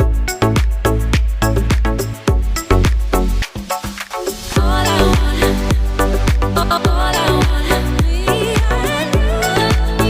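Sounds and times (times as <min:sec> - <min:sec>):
afrobeat dance music: 0:00.0 - 0:10.0.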